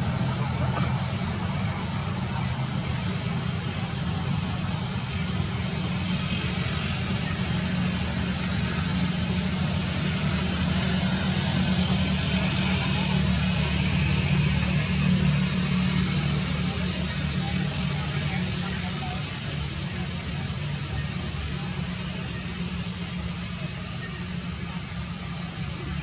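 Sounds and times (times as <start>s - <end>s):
engine idling: 0.0s - 26.0s
high-pitched whine: 0.0s - 26.0s.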